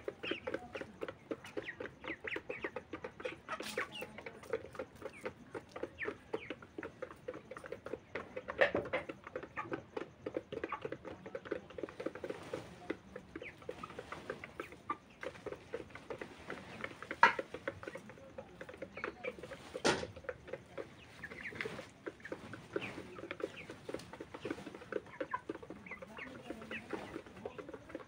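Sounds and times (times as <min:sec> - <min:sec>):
beaks tapping on a feeder pan: 0:00.0 - 0:28.0
chickens calling: 0:00.0 - 0:28.0.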